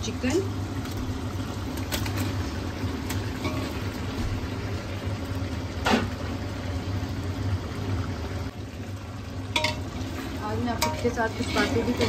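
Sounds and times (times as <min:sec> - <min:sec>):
masala bubbling and sizzling in pot: 0:00.0 - 0:12.0.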